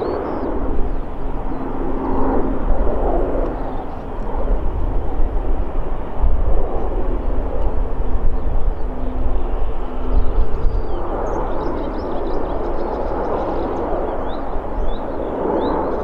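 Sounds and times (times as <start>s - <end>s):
jet engines rushing: 0.0s - 16.0s
wind rumbling on microphone: 0.0s - 16.0s.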